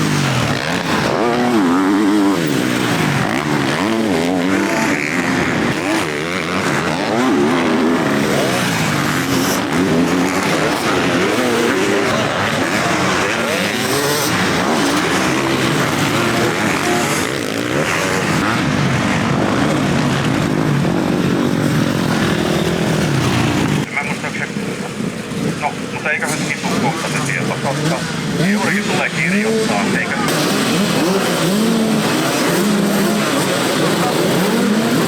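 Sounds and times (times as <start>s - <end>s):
motocross bikes revving: 0.0s - 35.0s.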